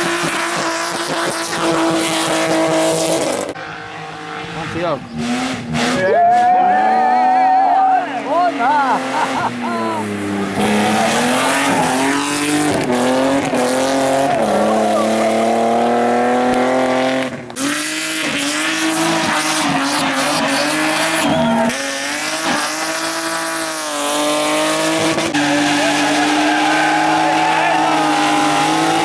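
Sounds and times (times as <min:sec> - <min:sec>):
race car engine at full throttle: 0:00.0 - 0:29.0.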